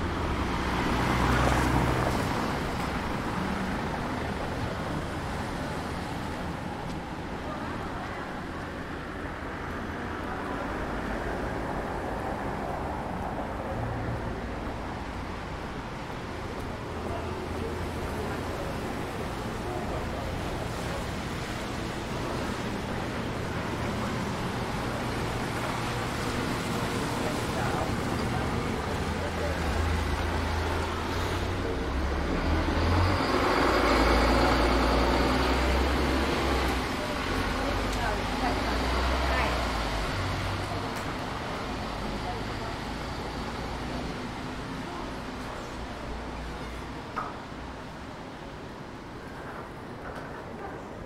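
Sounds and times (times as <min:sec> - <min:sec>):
continuous rush of noise: 0:00.0 - 0:51.0.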